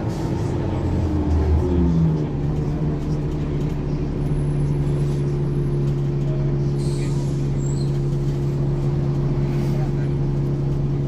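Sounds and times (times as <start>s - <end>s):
bus diesel engine drone: 0.0s - 11.0s.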